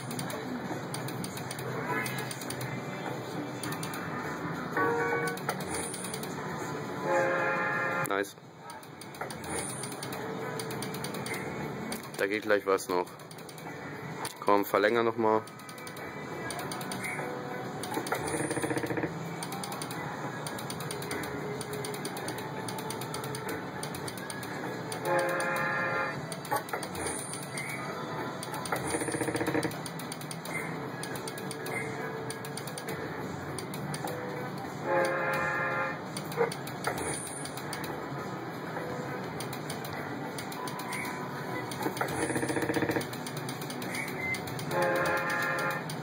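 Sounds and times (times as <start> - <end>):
slot machine reels ticking: 0.0 - 2.8, 4.8 - 6.5, 8.8 - 38.1, 38.8 - 46.0.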